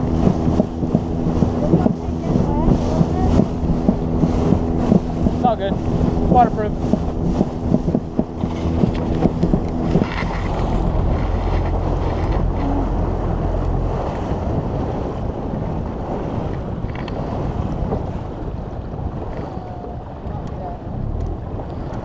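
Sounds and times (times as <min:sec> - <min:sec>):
boat motor humming: 0:00.0 - 0:22.0
hull slapping through waves: 0:00.0 - 0:22.0
wind buffeting microphone: 0:00.0 - 0:22.0.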